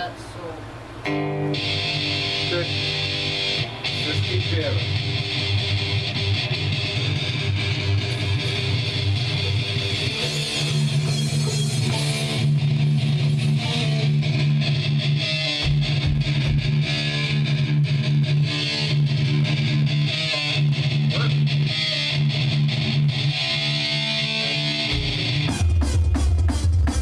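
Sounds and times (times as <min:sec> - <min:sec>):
distorted electric guitars: 0:00.0 - 0:27.0.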